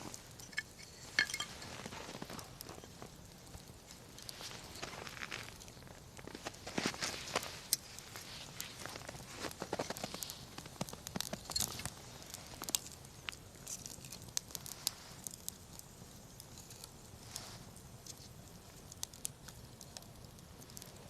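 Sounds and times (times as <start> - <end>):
campfire crackling: 0.0 - 21.0
sharp pops from fire: 0.0 - 21.0.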